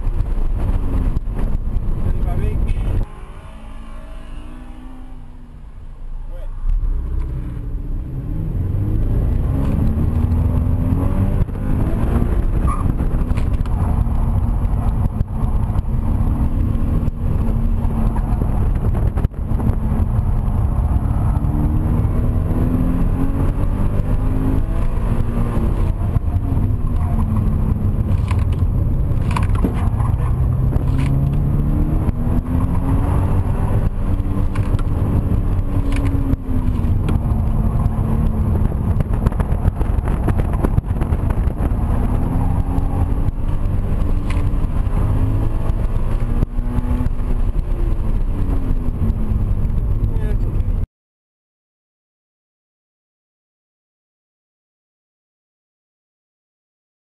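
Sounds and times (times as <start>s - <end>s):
car engine revving: 0.0s - 50.8s.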